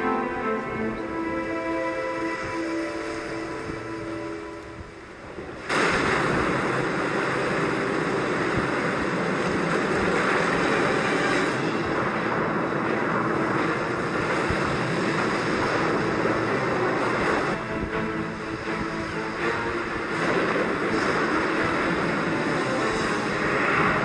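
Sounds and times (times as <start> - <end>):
soft music: 0.0 - 12.4, 13.0 - 24.0
sea surf rushing: 0.0 - 24.0.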